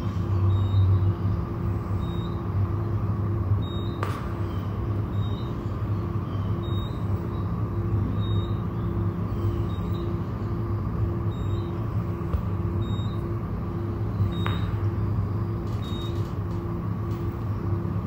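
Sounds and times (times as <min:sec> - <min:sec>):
low rumbling ambient drone: 0:00.0 - 0:18.0.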